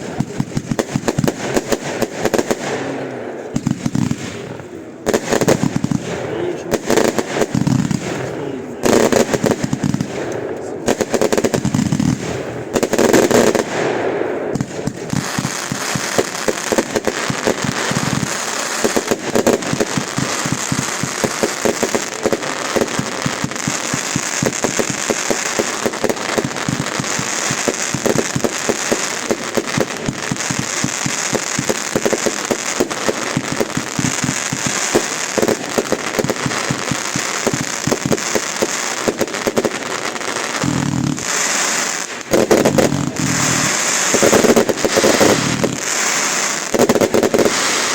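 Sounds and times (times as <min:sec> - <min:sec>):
fireworks cracking and banging: 0:00.0 - 0:47.9.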